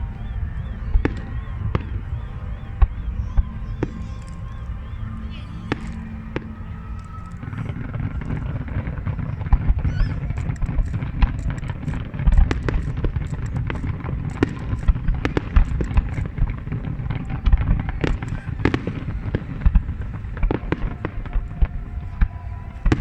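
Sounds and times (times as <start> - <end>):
fireworks bangs and crackles: 0.0 - 23.0
steady low rumble: 0.0 - 23.0.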